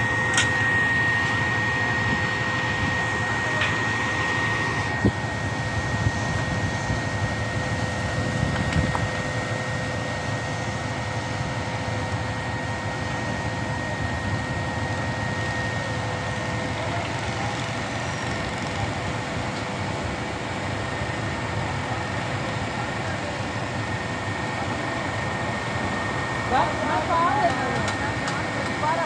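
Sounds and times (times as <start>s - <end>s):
diesel engine running: 0.0s - 29.0s
high whine: 0.0s - 29.0s.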